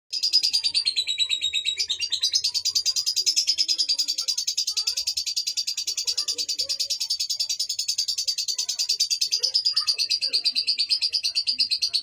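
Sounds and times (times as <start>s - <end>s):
lovebird chirping rapidly: 0.1s - 12.0s.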